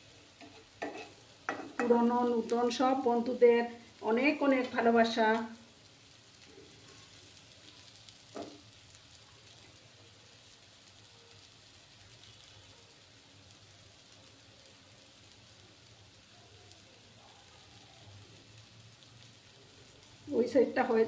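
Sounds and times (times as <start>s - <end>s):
oil sizzling and crackling: 0.0s - 21.0s.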